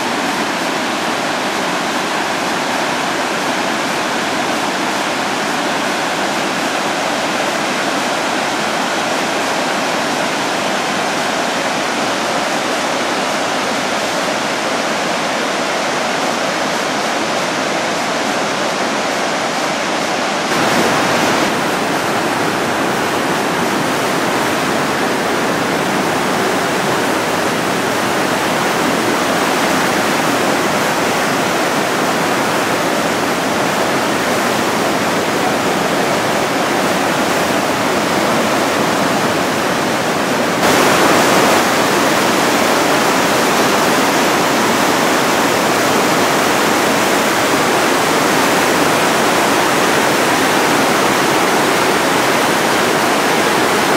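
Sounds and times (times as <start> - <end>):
white water rushing: 0.0 - 53.9.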